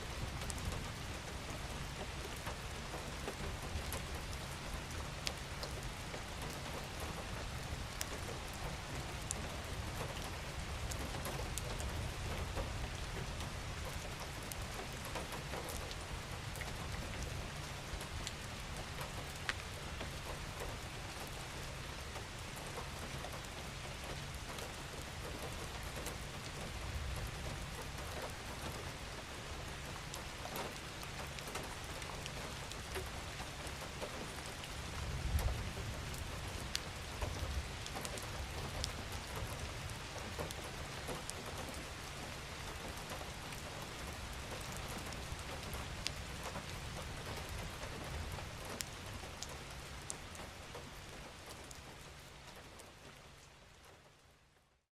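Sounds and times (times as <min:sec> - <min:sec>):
rain drops ticking: 0:00.0 - 0:54.9.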